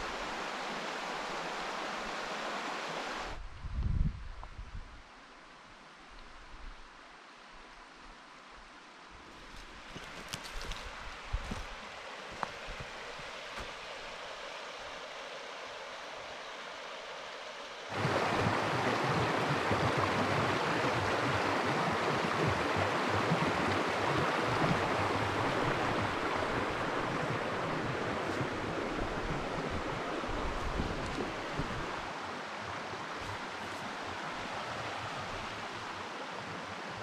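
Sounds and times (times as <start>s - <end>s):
stream water rushing: 0.0s - 3.4s, 6.9s - 37.0s
outdoor ambience: 0.0s - 37.0s.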